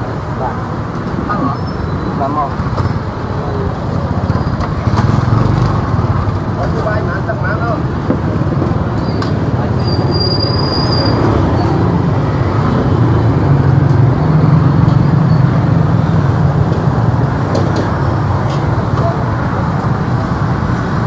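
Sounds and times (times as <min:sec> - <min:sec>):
street traffic: 0:00.0 - 0:21.0.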